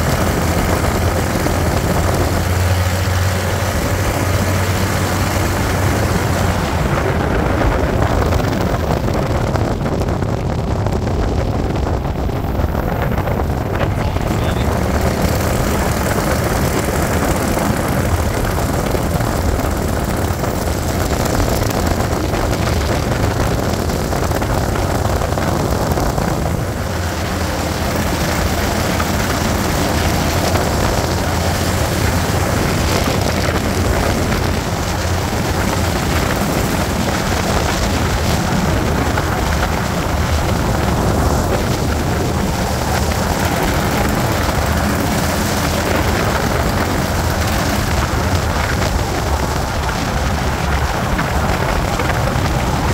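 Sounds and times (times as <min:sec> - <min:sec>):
road and wind noise: 0:00.0 - 0:52.9
truck engine drone: 0:00.0 - 0:52.9.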